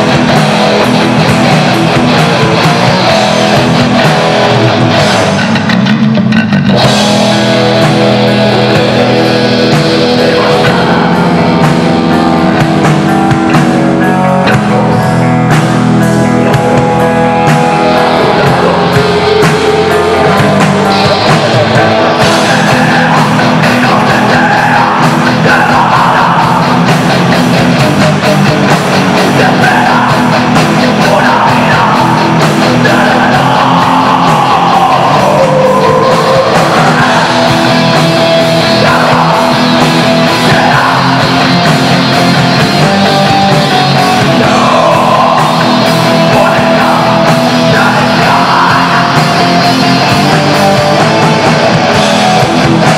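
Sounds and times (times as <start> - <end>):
live heavy metal band: 0.0 - 52.9.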